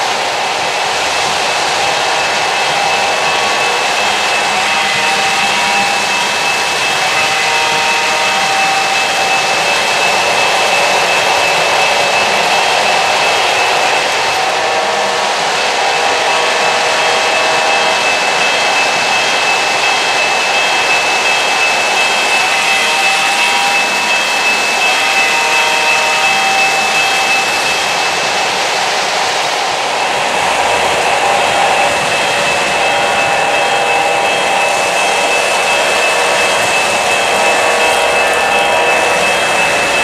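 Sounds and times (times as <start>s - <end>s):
high motor whine: 0.0s - 40.0s
model train wheels rolling on rails: 0.0s - 40.0s.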